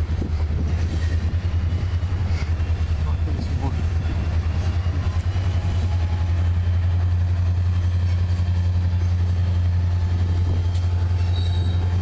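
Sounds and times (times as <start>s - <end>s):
locomotive engine pulsing drone: 0.0s - 12.0s.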